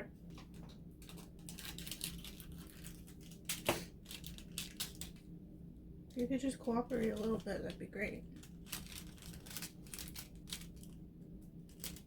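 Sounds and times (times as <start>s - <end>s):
light clicks and crackles: 0.3s - 5.3s, 6.0s - 12.0s
plastic bag crinkling: 0.4s - 5.3s, 6.1s - 12.0s.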